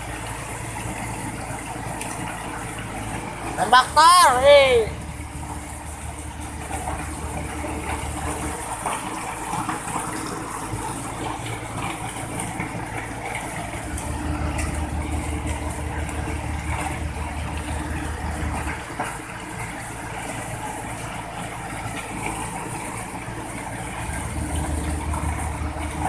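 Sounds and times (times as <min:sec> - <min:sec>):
machinery engine droning under load: 0:00.0 - 0:26.0.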